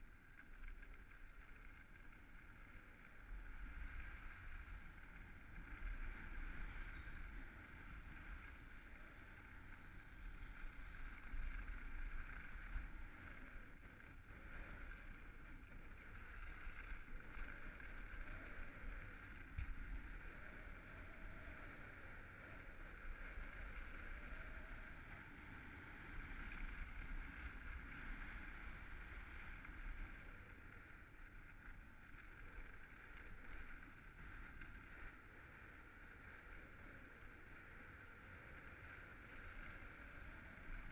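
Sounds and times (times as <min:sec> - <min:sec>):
skis gliding over snow: 0:00.0 - 0:40.9.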